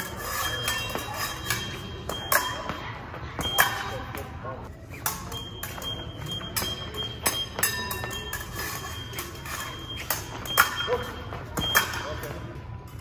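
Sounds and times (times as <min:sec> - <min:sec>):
fencing blades clashing: 0:00.0 - 0:13.0.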